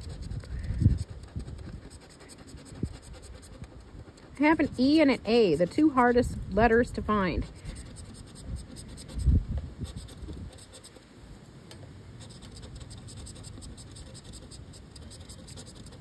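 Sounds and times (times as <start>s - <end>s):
scratching lottery ticket: 0.0s - 11.0s, 12.2s - 16.0s.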